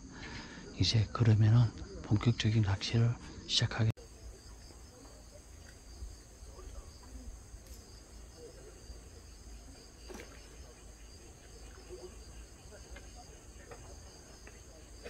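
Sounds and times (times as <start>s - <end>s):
insects chirring: 0.1s - 15.0s.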